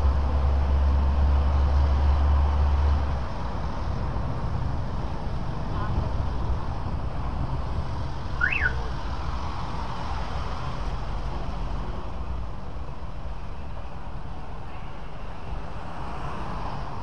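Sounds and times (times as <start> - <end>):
engine and road noise: 0.0 - 17.0.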